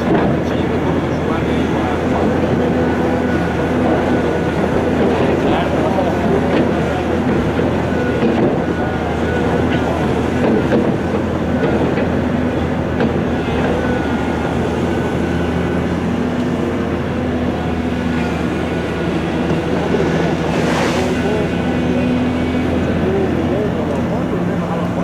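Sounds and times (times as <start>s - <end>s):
heavy diesel machinery running: 0.0s - 25.0s.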